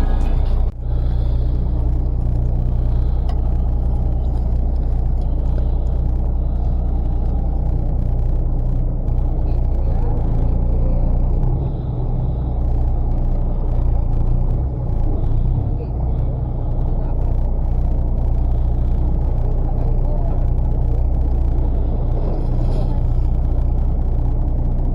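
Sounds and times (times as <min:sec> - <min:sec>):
boat engine droning: 0:00.0 - 0:24.9.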